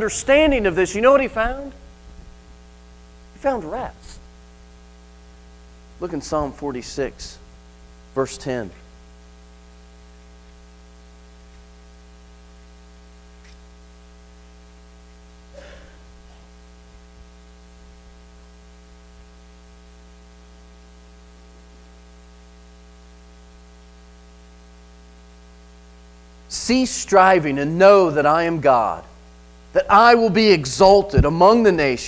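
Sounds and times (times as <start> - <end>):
electrical mains hum: 0.0 - 32.0
static: 0.0 - 32.0.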